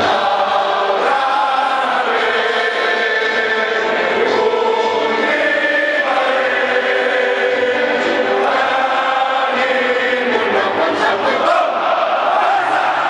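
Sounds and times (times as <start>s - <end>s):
stadium crowd singing: 0.0s - 13.0s.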